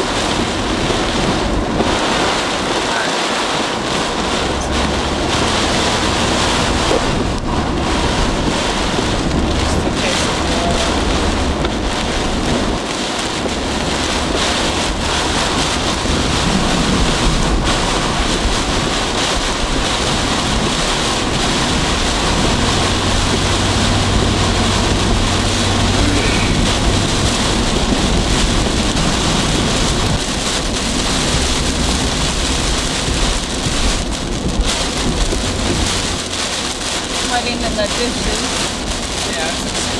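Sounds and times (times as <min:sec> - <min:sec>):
heavy rain pelting a car: 0:00.0 - 0:39.9.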